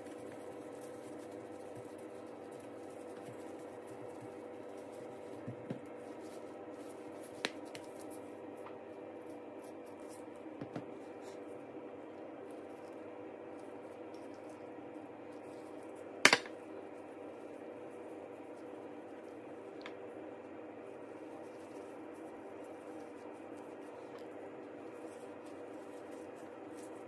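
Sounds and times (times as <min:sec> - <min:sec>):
hands pressing rice: 0:00.0 - 0:27.0
steady low hum: 0:00.0 - 0:27.0.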